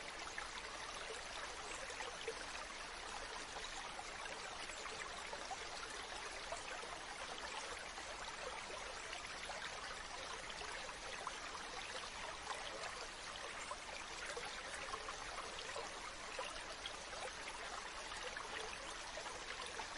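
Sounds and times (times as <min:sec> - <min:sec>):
stream running over stones: 0:00.0 - 0:19.9.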